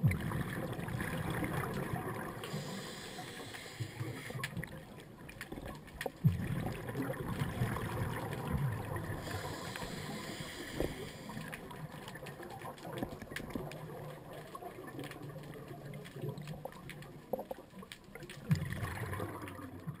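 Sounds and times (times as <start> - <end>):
underwater bubbling and gurgling: 0.0 - 20.0
faint clicks: 2.4 - 6.8, 7.4 - 20.0.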